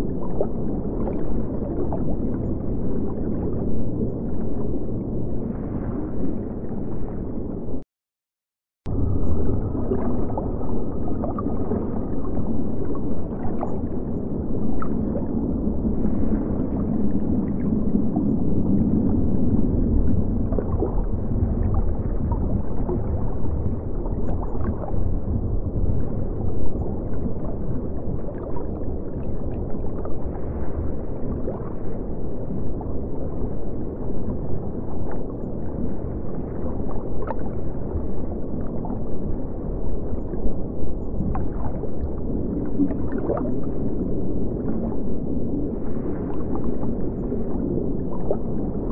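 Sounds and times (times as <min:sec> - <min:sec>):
muffled underwater rumble: 0:00.0 - 0:07.8, 0:08.8 - 0:48.9.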